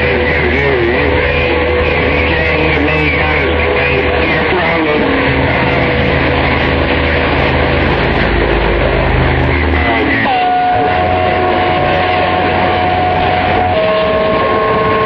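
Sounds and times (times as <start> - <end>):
guitar music over radio: 0.0 - 15.0
radio static: 0.0 - 15.0.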